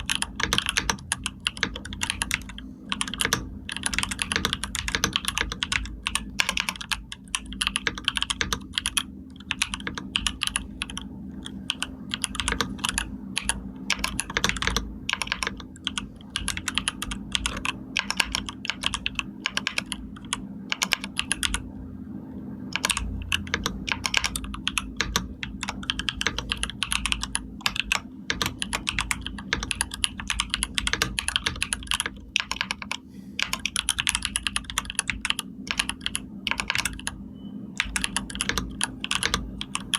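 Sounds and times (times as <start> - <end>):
typing on computer keyboard: 0.0 - 21.7, 22.7 - 37.2, 37.8 - 39.9
faint steady hum: 0.0 - 39.9.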